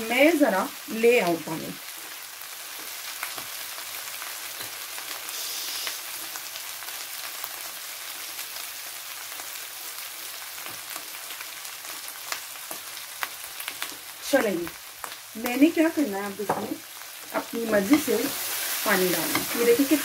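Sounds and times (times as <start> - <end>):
potatoes frying in oil: 0.0 - 20.0.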